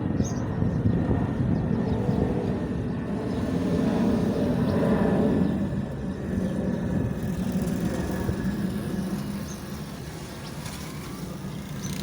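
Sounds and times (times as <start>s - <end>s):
jet engine low rumble: 0.0s - 12.0s.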